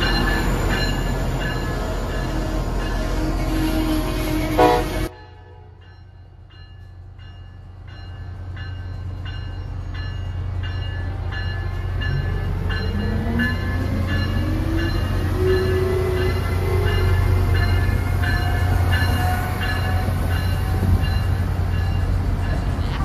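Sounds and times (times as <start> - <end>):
train bell ringing: 0.0 - 23.0.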